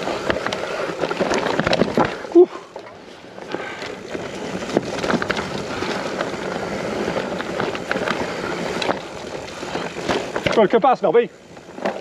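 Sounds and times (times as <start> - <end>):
bike knocks and rattles: 0.0 - 12.0
tyre and wind noise: 0.0 - 12.0.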